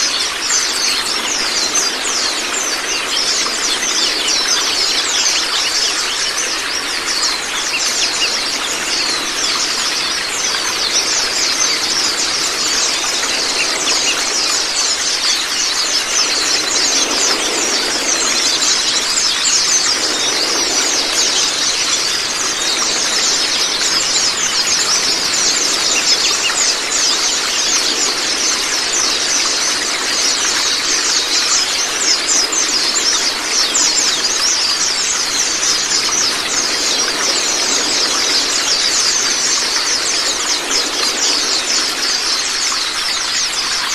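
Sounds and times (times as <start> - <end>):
flowing water: 0.0 - 43.9.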